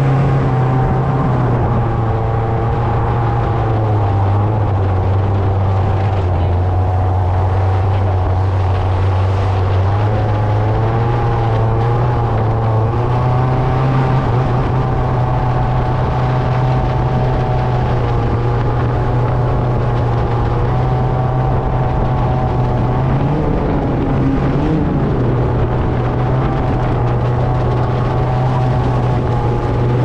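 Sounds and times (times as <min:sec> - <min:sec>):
car engine running loud: 0:00.0 - 0:30.0.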